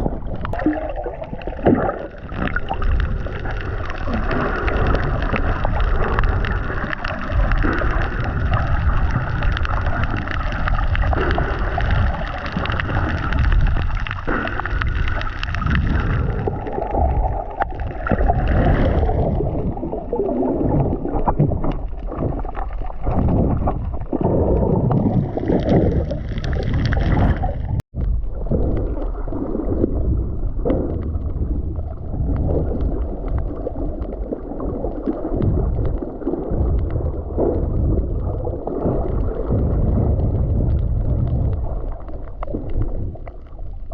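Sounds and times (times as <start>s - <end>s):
muffled underwater sloshing: 0.0s - 43.9s.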